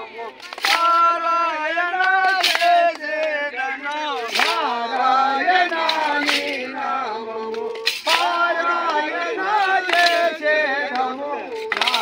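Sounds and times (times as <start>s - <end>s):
men singing in unison: 0.0s - 12.0s
hand claps: 0.2s - 12.0s.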